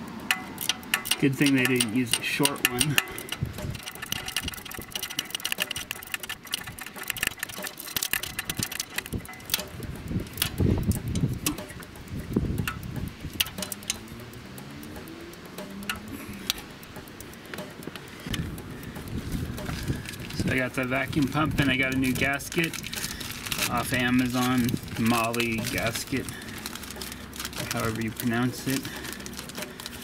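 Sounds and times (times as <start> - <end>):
socket ratchet clicking: 0.0 - 30.0.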